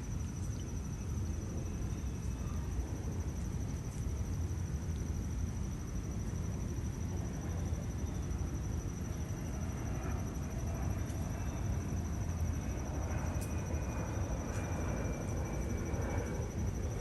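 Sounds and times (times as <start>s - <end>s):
faint high-pitched whine: 0.0s - 17.0s
low outdoor rumble: 0.0s - 17.0s.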